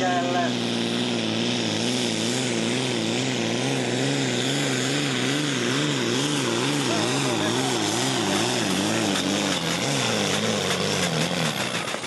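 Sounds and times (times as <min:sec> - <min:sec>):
tractor diesel engine at full power: 0:00.0 - 0:12.0.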